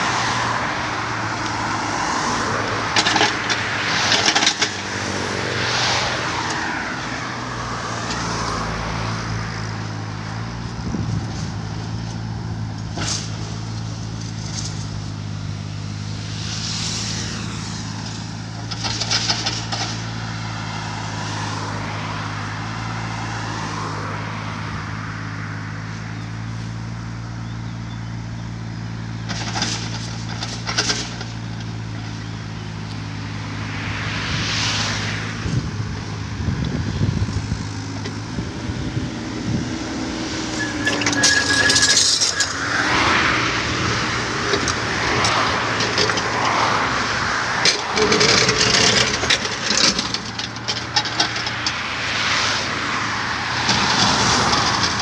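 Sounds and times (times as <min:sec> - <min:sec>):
excavator diesel engine running: 0:00.0 - 0:23.0, 0:24.6 - 0:34.5, 0:35.1 - 0:55.0
vehicle passing: 0:00.0 - 0:26.0, 0:31.7 - 0:55.0.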